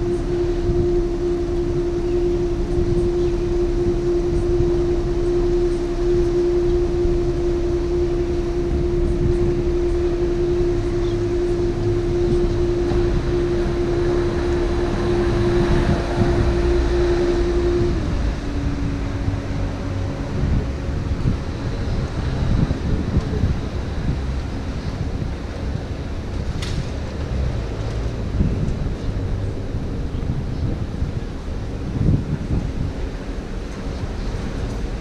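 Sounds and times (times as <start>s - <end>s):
boat engine whining: 0.0s - 35.0s
low rumble: 0.0s - 35.0s.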